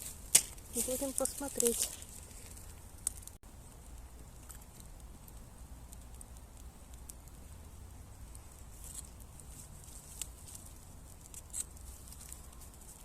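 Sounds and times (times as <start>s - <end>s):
campfire crackling: 0.0s - 13.0s
fire pops: 0.0s - 13.0s.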